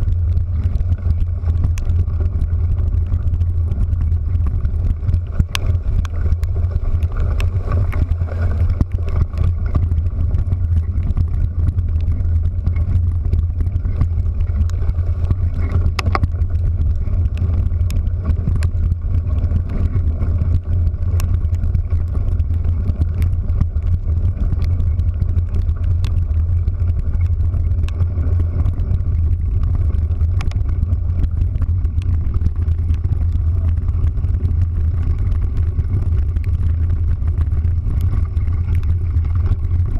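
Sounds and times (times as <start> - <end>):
vehicle low drone: 0.0 - 39.9.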